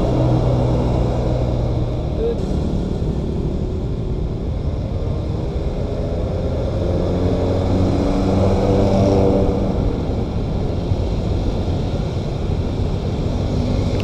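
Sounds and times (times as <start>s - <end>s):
bus diesel engine passing: 0.0s - 14.0s
road traffic: 0.0s - 14.0s.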